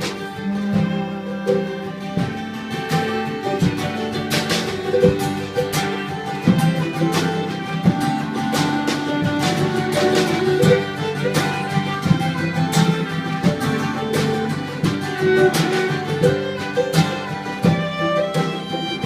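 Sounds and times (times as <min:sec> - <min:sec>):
fiddle playing: 0:00.0 - 0:19.0
picked acoustic guitar: 0:00.0 - 0:19.0.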